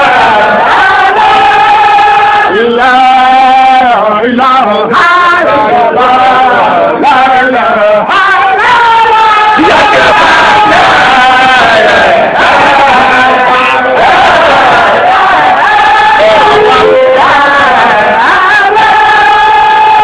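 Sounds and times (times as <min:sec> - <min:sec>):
men chanting: 0:00.0 - 0:20.0.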